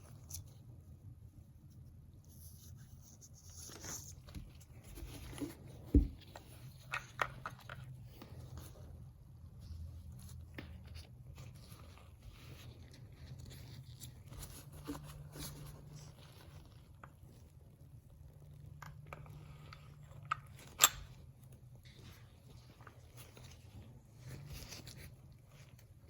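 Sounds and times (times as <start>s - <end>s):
rustles and scrapes: 0.0s - 26.0s.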